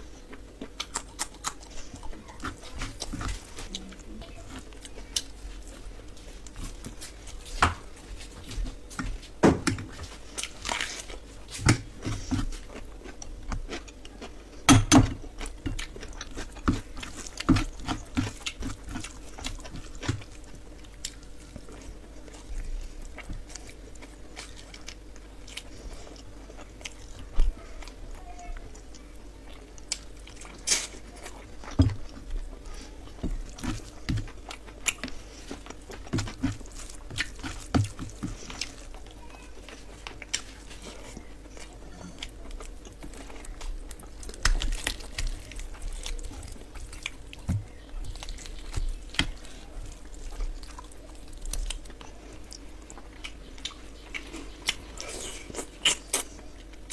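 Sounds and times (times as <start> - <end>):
chewing and lip-smacking: 0.0 - 56.9
faint hum: 0.0 - 56.9
fingers squishing through food: 0.0 - 56.9.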